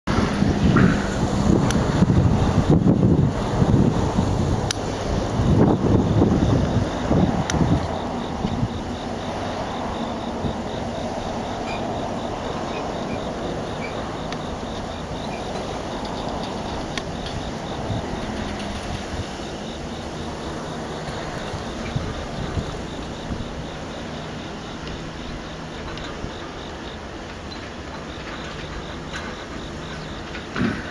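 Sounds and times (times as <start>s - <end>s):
train wheels rumbling on rail: 0.1s - 30.9s.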